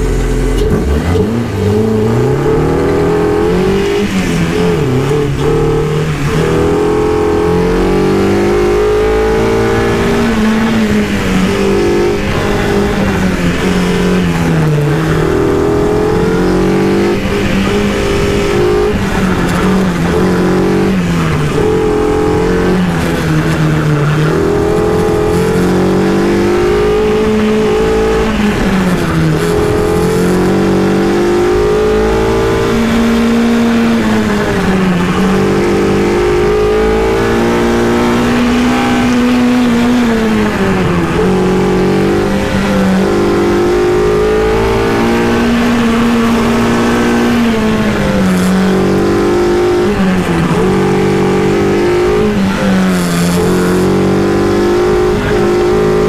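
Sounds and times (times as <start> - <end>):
car engine revving up and down: 0.0 - 56.0.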